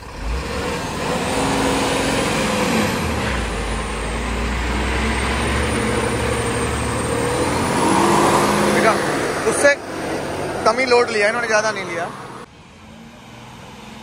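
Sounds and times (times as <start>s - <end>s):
truck engine rumbling under load: 0.0s - 14.0s.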